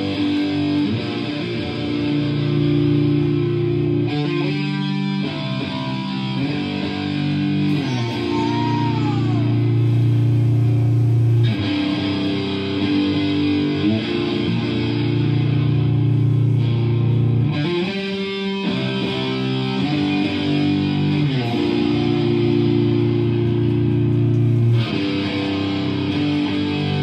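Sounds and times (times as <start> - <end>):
guitar note sliding down: 0.0 - 27.0
rock band playing: 0.0 - 27.0.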